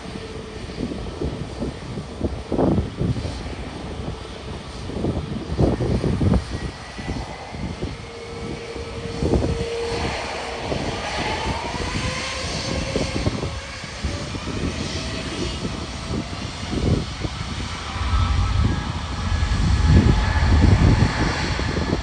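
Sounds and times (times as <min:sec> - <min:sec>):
jet engines whining: 0:00.0 - 0:22.0
low rumble: 0:00.0 - 0:22.0.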